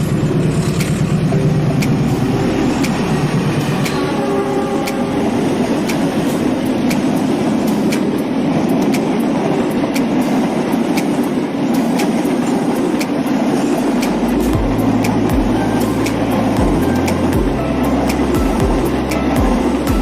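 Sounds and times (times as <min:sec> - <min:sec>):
train rumbling past: 0:00.0 - 0:20.0
wheels clicking over rail joints: 0:00.0 - 0:20.0.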